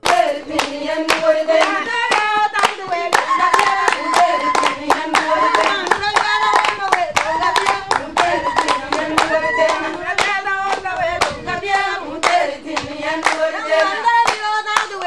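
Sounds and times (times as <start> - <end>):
hands clapping in time: 0.0 - 11.4, 12.2 - 15.0
group singing: 0.0 - 15.0.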